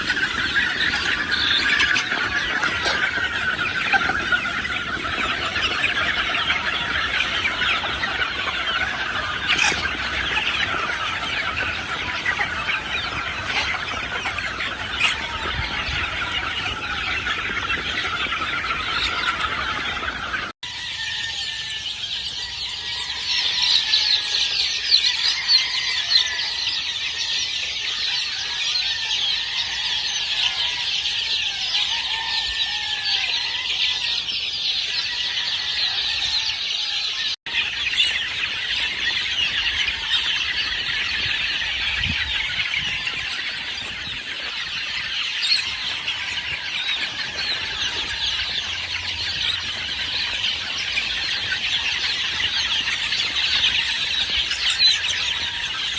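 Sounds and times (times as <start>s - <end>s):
chickens clucking: 0.0s - 55.9s
high-pitched chirps and squeals: 0.0s - 55.9s.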